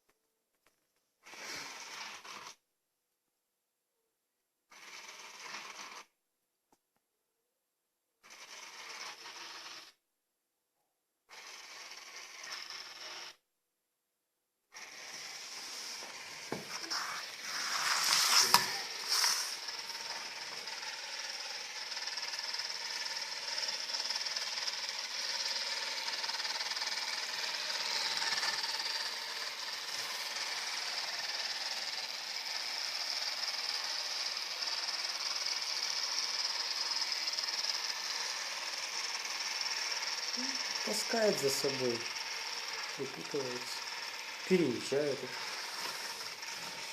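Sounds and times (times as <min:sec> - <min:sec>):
robot vacuum cleaner whirring: 0:01.2 - 0:02.6, 0:04.7 - 0:06.1, 0:08.2 - 0:10.0, 0:11.3 - 0:13.4, 0:14.7 - 0:46.9.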